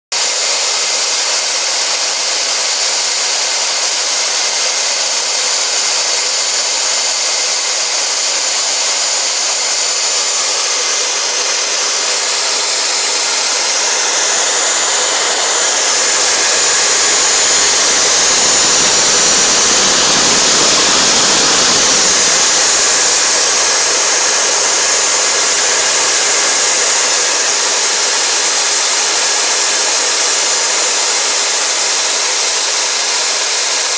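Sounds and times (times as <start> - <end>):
router spindle whining: 0.1 - 33.9.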